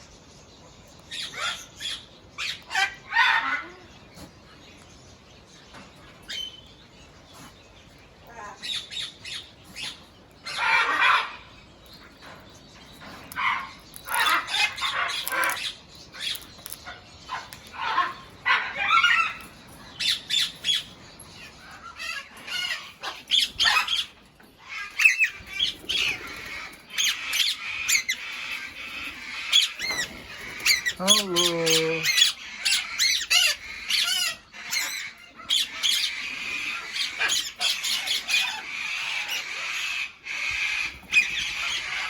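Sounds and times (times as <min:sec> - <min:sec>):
large birds squawking: 0:01.1 - 0:04.3, 0:08.5 - 0:12.3, 0:13.0 - 0:42.0.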